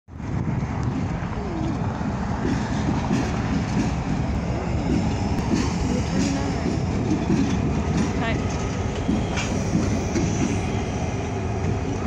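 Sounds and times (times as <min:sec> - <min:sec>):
diesel locomotives rumbling: 0:00.1 - 0:12.0.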